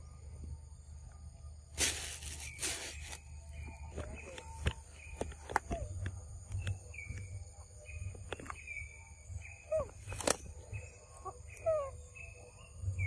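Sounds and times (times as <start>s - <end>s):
birds chirping: 2.1s - 13.0s.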